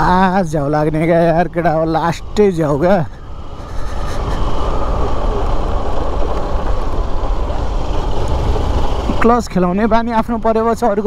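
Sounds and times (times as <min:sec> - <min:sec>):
wind rush on microphone: 0:00.0 - 0:10.7
motorcycle engine and road noise: 0:00.0 - 0:11.0.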